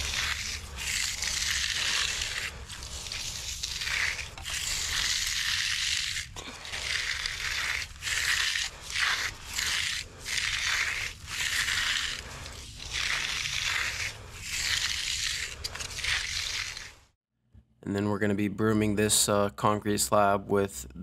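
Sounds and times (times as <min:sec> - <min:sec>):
trowel scraping wet concrete: 0:00.0 - 0:17.2.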